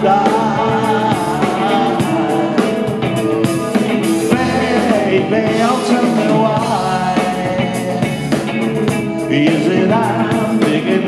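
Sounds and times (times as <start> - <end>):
bass guitar: 0.0 - 11.0
drum kit: 0.0 - 11.0
electric guitar: 0.0 - 11.0
lead singer's voice: 0.0 - 11.0.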